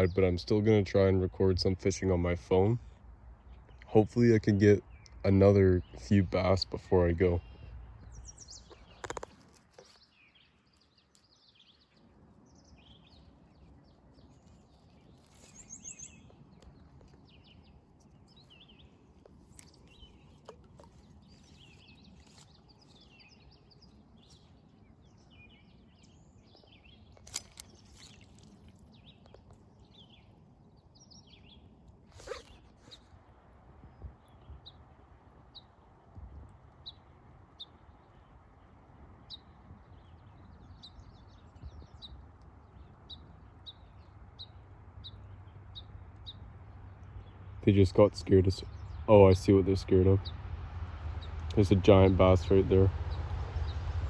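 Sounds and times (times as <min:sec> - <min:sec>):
small birds chirping: 0:00.0 - 0:50.4.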